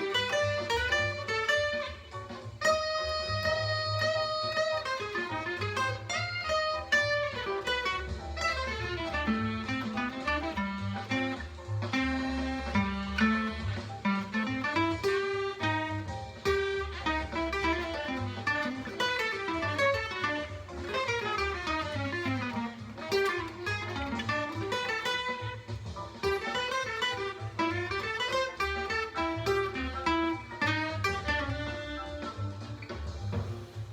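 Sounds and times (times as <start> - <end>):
acoustic guitar jazz solo: 0.0 - 33.9
low guitar accompaniment: 0.0 - 33.9.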